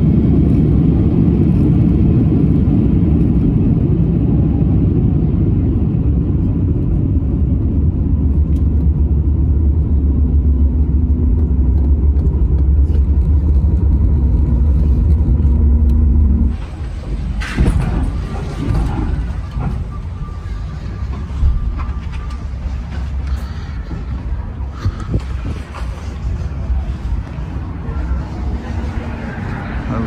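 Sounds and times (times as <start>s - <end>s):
aircraft cabin low rumble: 0.0s - 30.0s.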